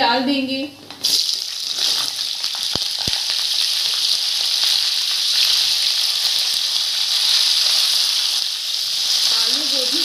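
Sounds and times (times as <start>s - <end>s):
vegetables sizzling in hot oil: 0.9s - 10.0s.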